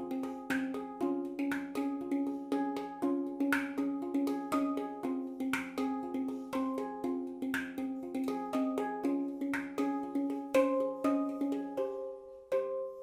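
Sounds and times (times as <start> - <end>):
handpan struck notes: 0.0 - 13.0.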